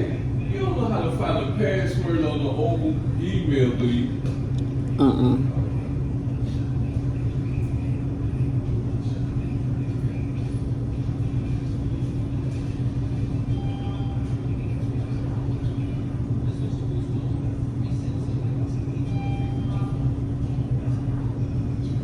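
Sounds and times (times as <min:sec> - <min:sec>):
vehicle engine low rumble: 0:00.0 - 0:22.0.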